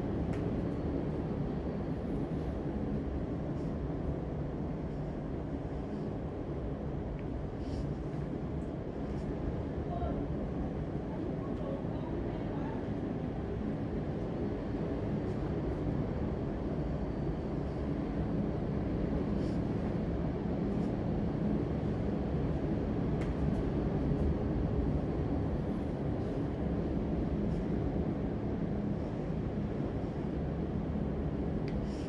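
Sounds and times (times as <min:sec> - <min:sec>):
faint hum: 0:00.0 - 0:32.0
low rumbling background noise: 0:00.0 - 0:32.0.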